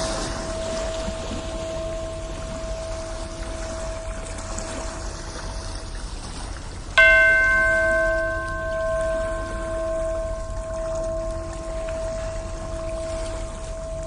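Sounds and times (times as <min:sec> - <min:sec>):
bell ringing: 0:00.0 - 0:05.9, 0:07.0 - 0:14.0
ocean waves: 0:00.0 - 0:14.0.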